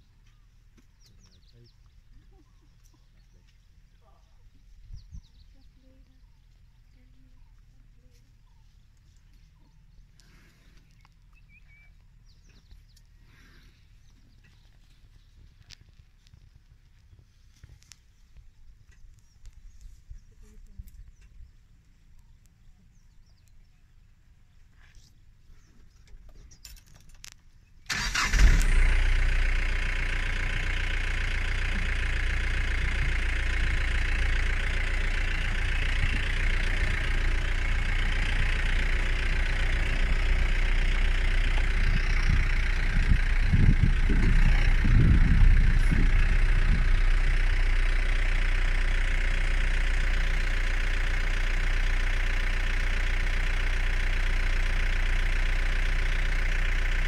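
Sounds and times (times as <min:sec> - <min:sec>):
vehicle engine starting and idling: 0:00.0 - 0:24.5, 0:25.6 - 0:57.0.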